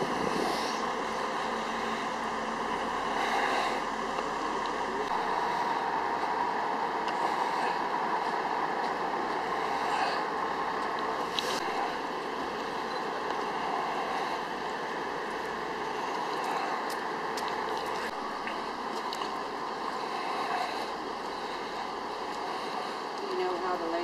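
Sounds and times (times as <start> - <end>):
truck engines idling: 0.0 - 24.0.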